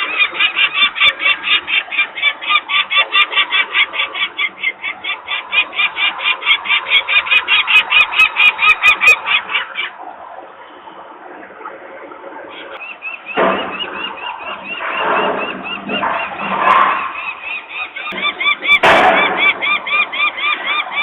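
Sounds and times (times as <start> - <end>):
falcon alarm cacking: 0.0 - 11.0, 12.5 - 21.0.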